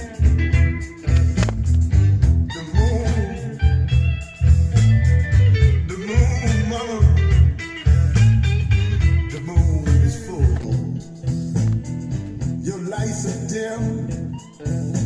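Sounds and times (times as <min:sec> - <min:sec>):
blues rock music: 0:00.0 - 0:15.0.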